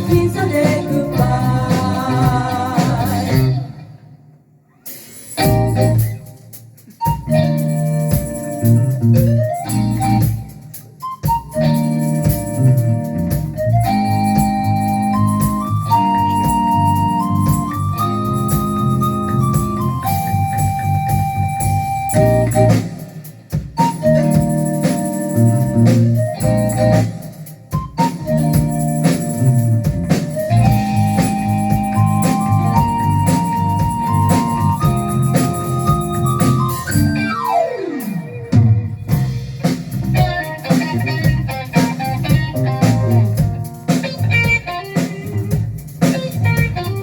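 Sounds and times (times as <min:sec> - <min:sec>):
bass line: 0:00.0 - 0:03.8, 0:05.4 - 0:06.2, 0:07.3 - 0:10.4, 0:11.5 - 0:23.0, 0:23.9 - 0:27.2, 0:28.1 - 0:37.5, 0:38.5 - 0:44.6, 0:46.3 - 0:47.0
jazz-funk keyboard music: 0:00.0 - 0:04.0, 0:05.0 - 0:47.0.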